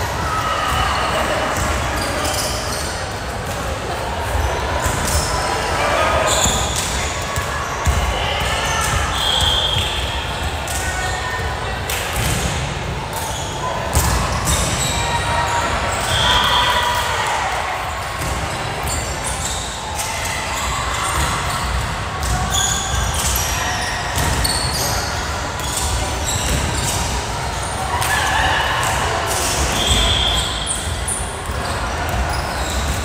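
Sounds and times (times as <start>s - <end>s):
sneakers squeaking on floor: 1.5s - 3.2s, 4.3s - 11.5s, 13.2s - 16.8s, 17.9s - 28.0s, 28.8s - 33.0s.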